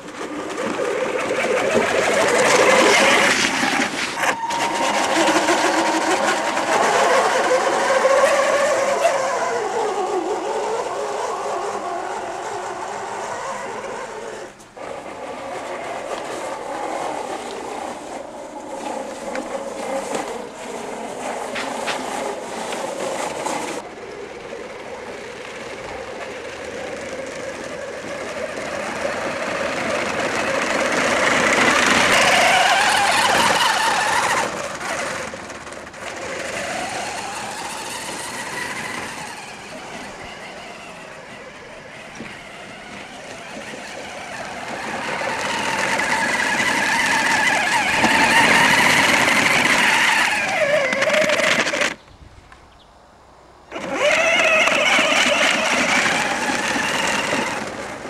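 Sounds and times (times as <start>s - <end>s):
electric motor whine: 0.0s - 52.0s, 53.7s - 58.0s.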